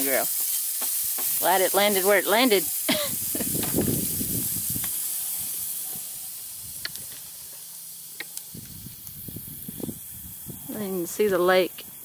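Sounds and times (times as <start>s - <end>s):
patty sizzling on a grill: 0.0s - 12.0s.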